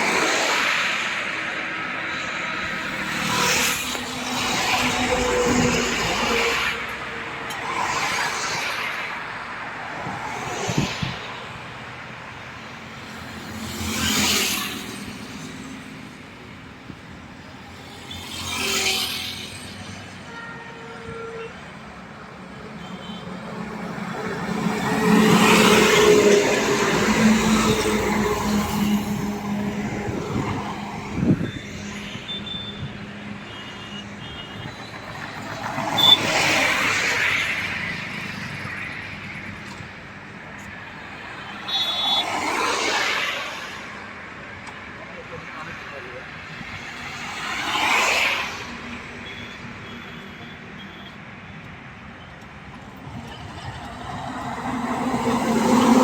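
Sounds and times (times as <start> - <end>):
trucks passing on highway: 0.0 - 20.4, 21.6 - 56.0.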